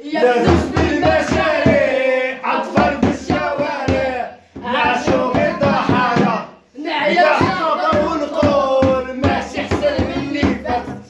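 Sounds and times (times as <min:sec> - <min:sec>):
man singing loudly: 0:00.0 - 0:11.0.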